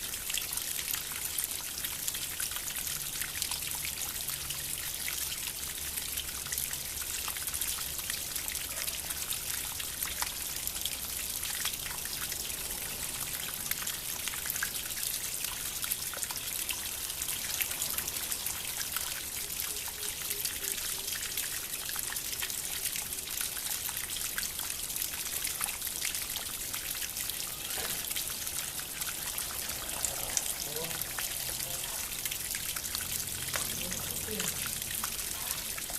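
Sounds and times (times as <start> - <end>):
water fountain trickling: 0.0 - 35.9.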